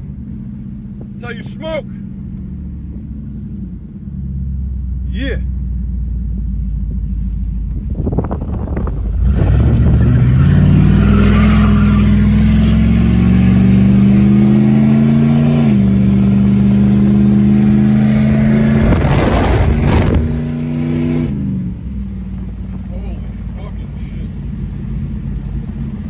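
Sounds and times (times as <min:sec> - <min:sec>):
car engine accelerating: 0:00.0 - 0:26.0
passing car: 0:00.0 - 0:26.0.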